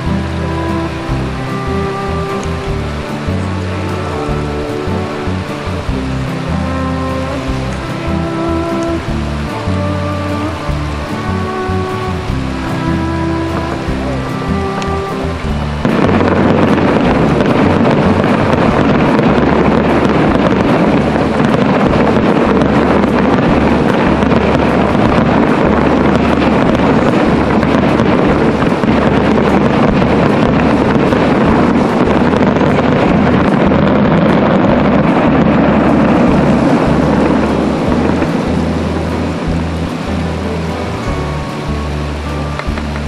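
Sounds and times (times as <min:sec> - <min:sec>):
distant fireworks bursts and crackle: 0:00.0 - 0:43.0.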